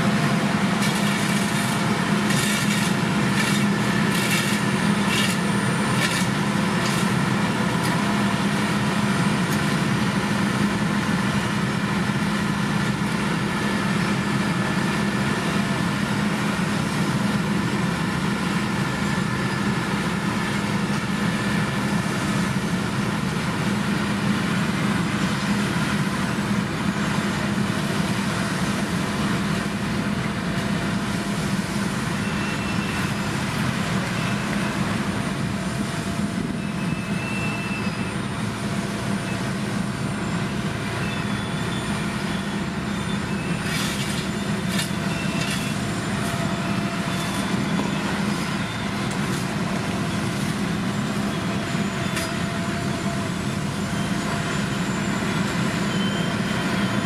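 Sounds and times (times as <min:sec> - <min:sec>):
heavy diesel machinery engine drone: 0:00.0 - 0:57.0.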